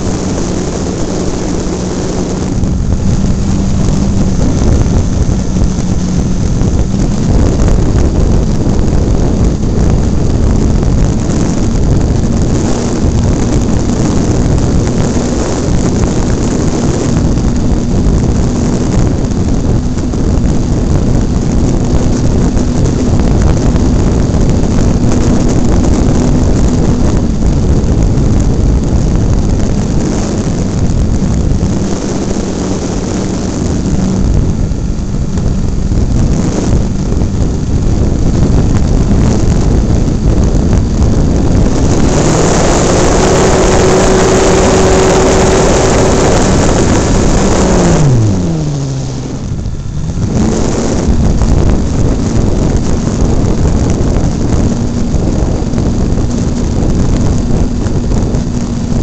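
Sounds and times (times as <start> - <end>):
wind rushing over camera: 0.0 - 59.0.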